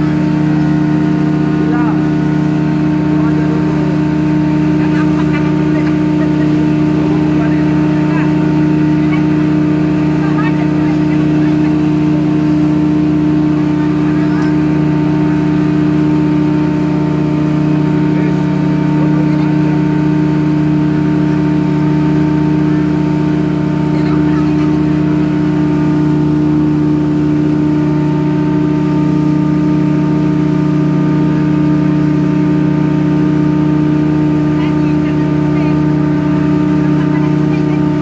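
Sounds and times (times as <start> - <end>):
ship engine droning: 0.0 - 38.0.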